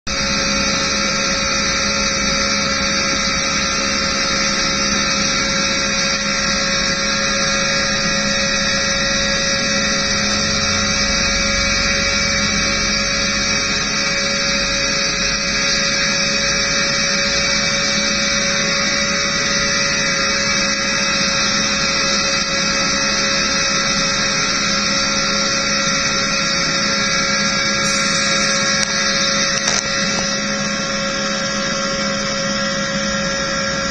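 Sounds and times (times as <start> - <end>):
race truck engine at full throttle: 0.1 - 33.9.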